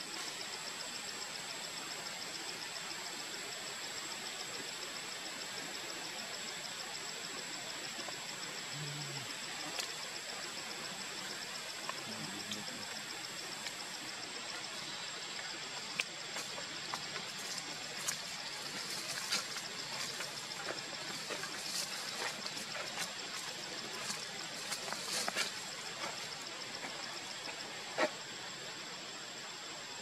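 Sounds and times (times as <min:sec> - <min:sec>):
forest ambience hiss: 0:00.0 - 0:30.0.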